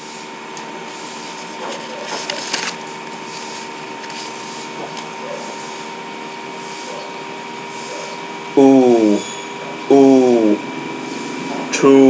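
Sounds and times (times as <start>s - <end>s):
background hiss and hum: 0.0s - 12.0s.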